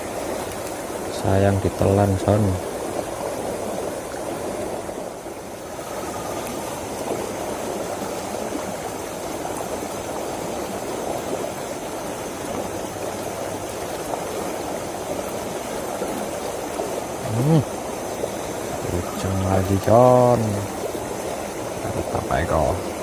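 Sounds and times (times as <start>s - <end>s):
water rushing down channel: 0.0s - 23.0s.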